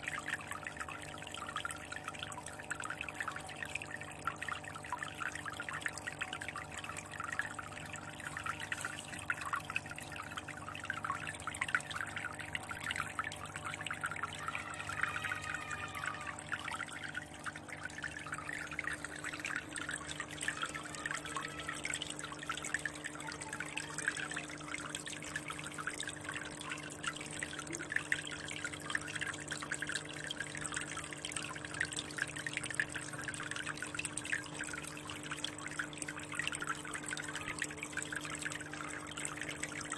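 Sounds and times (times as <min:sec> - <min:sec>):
low electrical hum: 0:00.0 - 0:39.9
water trickling and splashing: 0:00.0 - 0:39.9.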